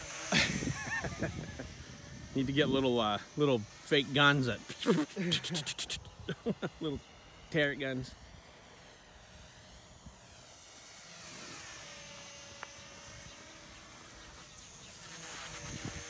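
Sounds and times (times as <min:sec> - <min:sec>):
model plane propeller whine: 0:00.0 - 0:16.0.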